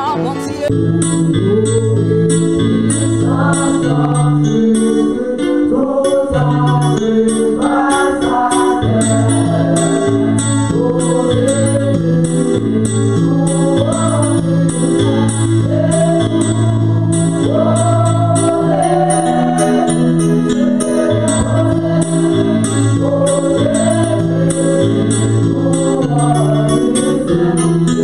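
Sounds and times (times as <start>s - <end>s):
bass notes: 0.0s - 28.0s
electric keyboard chords: 0.0s - 28.0s.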